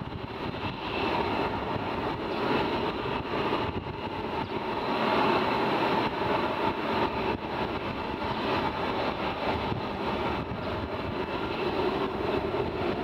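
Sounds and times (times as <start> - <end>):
jet engines whining at idle: 0.0 - 13.0.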